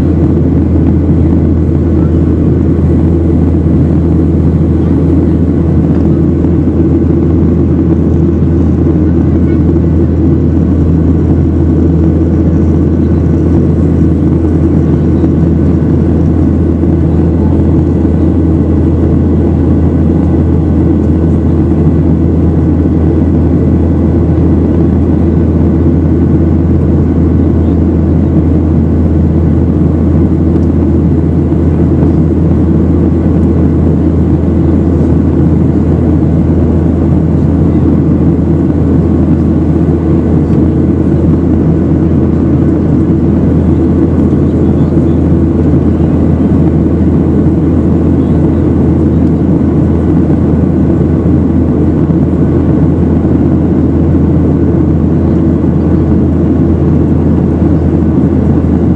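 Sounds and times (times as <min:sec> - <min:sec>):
jet engine rumble in a cabin: 0:00.0 - 0:58.9.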